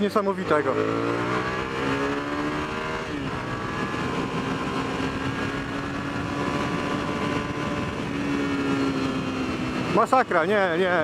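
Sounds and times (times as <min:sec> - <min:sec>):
motorcycle engine accelerating hard: 0:00.0 - 0:11.0
wind buffeting microphone: 0:00.9 - 0:10.0.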